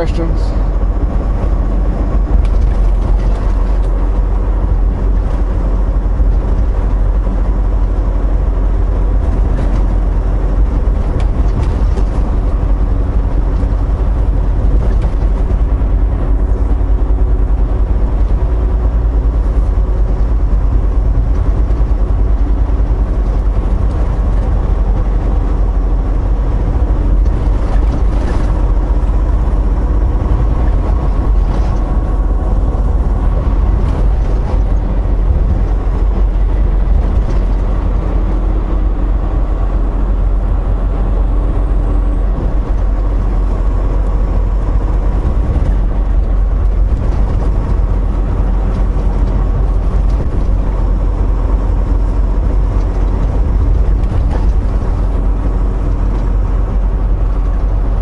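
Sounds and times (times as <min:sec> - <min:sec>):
faint engine hum: 0:00.0 - 0:58.0
truck engine and road rumble: 0:00.0 - 0:58.0.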